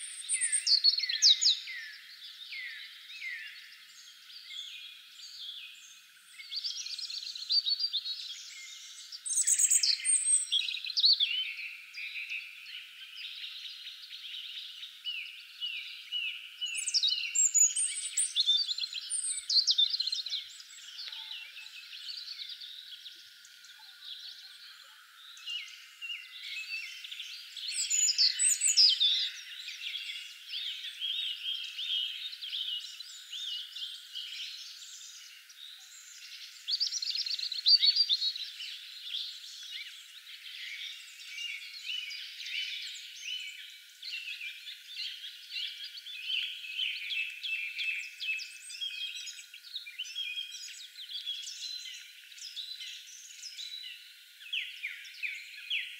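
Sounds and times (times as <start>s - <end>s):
songbirds chirping and singing: 0.0s - 55.9s.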